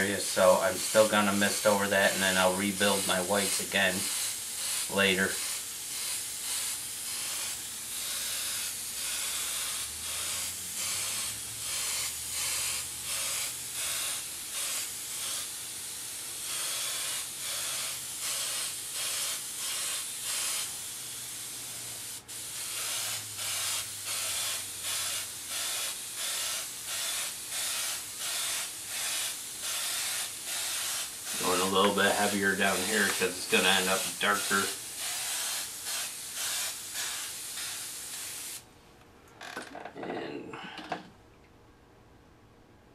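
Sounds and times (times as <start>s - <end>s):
airbrush hissing bursts: 0.0s - 38.6s.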